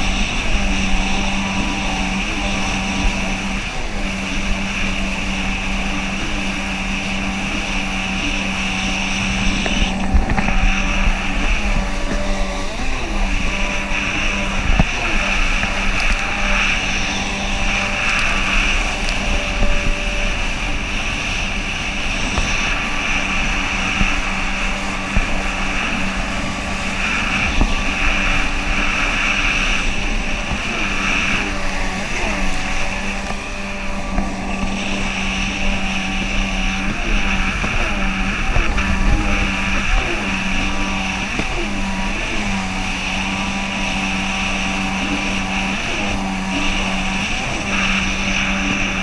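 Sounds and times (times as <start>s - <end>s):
jet ski engine running: 0.0s - 49.0s.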